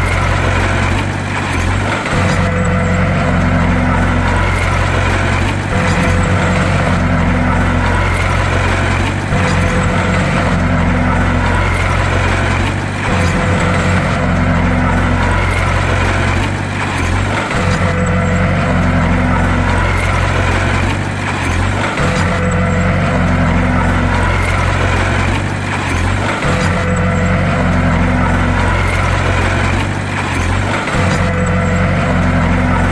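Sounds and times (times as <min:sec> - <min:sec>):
bulldozer diesel engine droning: 0:00.0 - 0:32.9.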